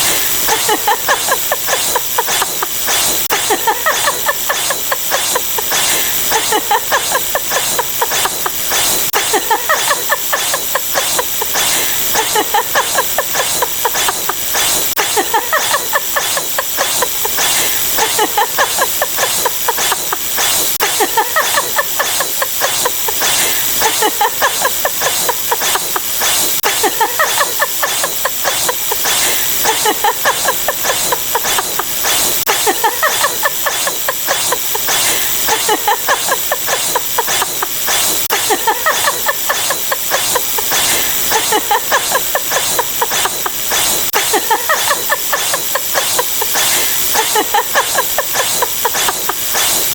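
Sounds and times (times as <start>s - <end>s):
overlapping sound effects: 0.0s - 49.9s
steady hiss: 0.0s - 49.9s.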